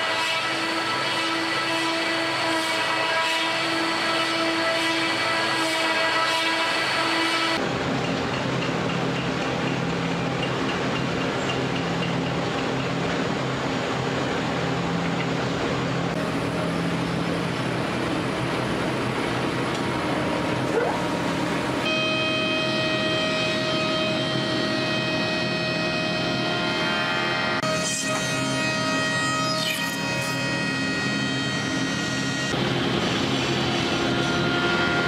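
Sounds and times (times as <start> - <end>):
machine whining tones: 0.0 - 35.0
woodworking machinery running: 0.0 - 35.0.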